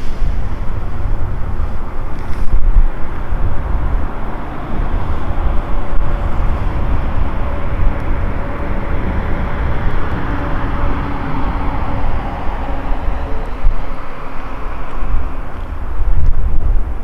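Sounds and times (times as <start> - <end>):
campfire low rumble: 0.0 - 17.0.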